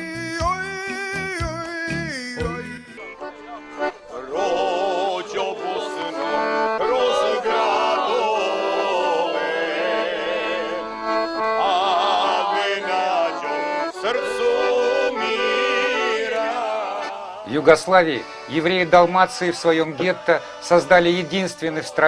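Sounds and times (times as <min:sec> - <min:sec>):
folk music melody: 0:00.0 - 0:22.0.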